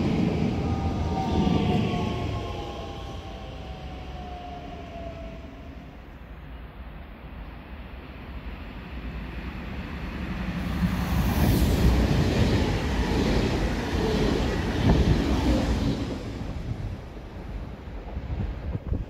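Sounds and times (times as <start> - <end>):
passing train rumbling: 0.0 - 19.0.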